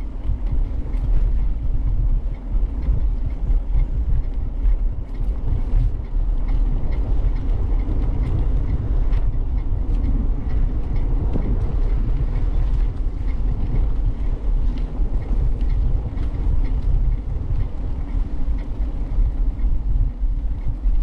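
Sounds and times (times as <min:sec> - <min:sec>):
bicycle tyre and road noise: 0:00.0 - 0:21.0
wind buffeting microphone: 0:00.0 - 0:21.0.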